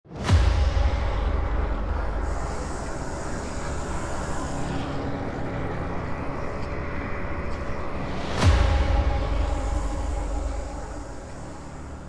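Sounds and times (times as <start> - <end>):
dark ambient drone: 0.1 - 12.0.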